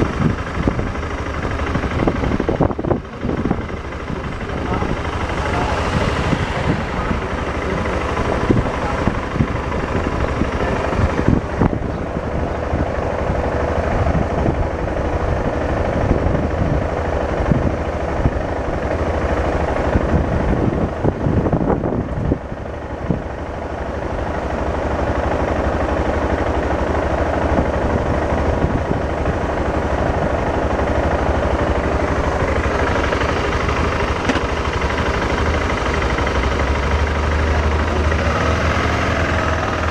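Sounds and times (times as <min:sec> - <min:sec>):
motorcycle engine rumble: 0:00.0 - 0:39.9
wind and road noise: 0:00.0 - 0:39.9.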